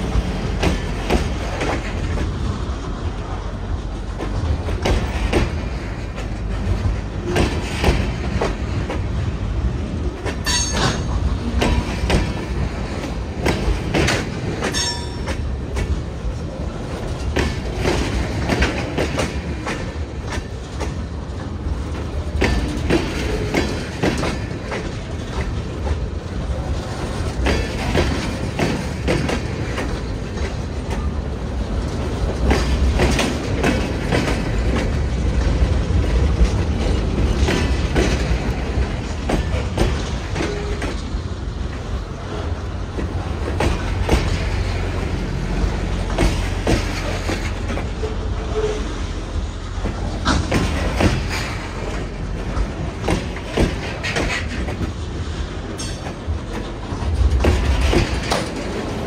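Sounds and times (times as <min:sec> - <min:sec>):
freight cars rumbling on rails: 0:00.0 - 0:59.0
wheels clacking over rail joints: 0:00.0 - 0:59.0.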